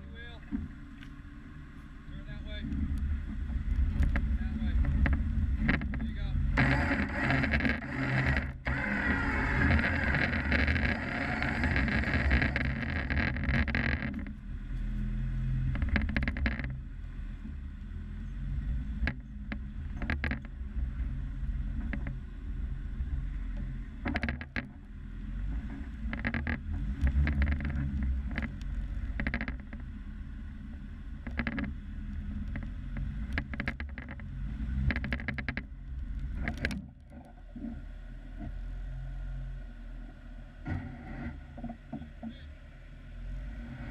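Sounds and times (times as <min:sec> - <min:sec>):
engine running at low revs: 0:00.0 - 0:43.9.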